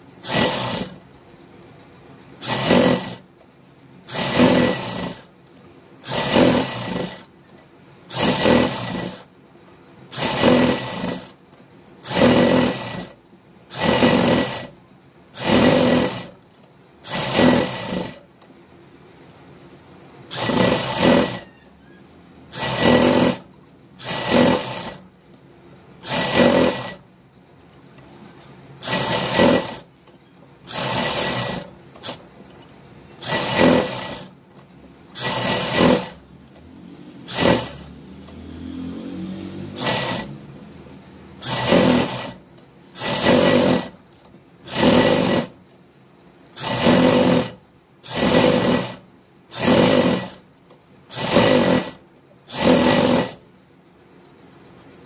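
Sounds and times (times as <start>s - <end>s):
sewing machine stitching: 0.0s - 1.1s, 2.3s - 9.3s, 10.0s - 18.5s, 20.2s - 21.7s, 22.5s - 25.4s, 26.0s - 27.1s, 27.9s - 45.8s, 46.5s - 53.5s.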